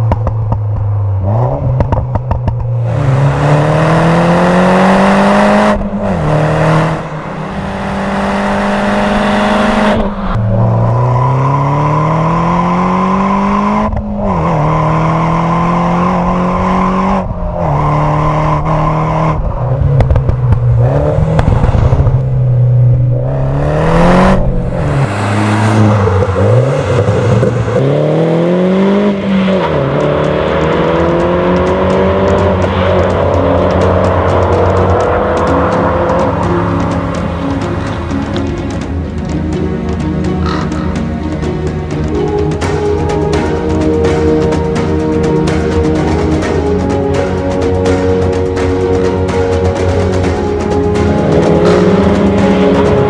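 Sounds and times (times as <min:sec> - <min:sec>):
car engine accelerating through gears: 0:00.0 - 0:53.0.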